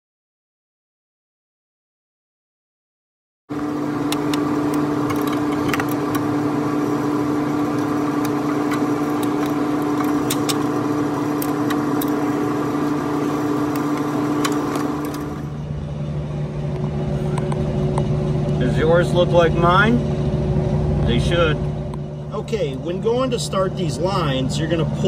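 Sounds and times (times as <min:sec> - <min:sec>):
steady mechanical hum: 0:03.5 - 0:25.0.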